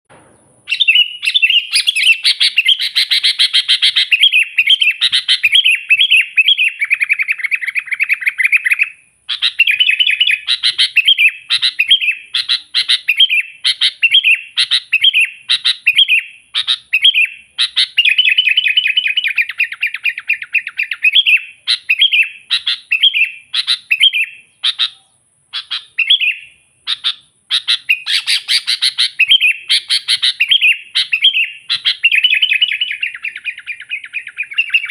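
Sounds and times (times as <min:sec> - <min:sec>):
bulbul singing bubbly chirps: 0:00.7 - 0:34.9.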